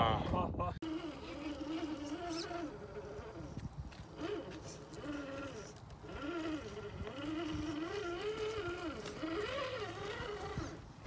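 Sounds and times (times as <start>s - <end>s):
electric motor and gears whining: 0.8s - 11.0s.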